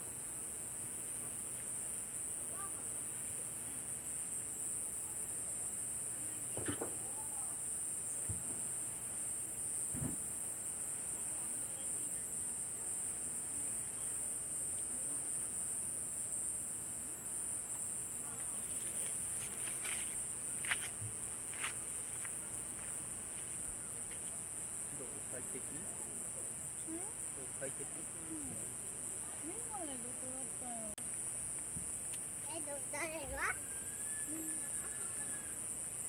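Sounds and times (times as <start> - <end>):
night insects chorus: 0.0 - 36.0.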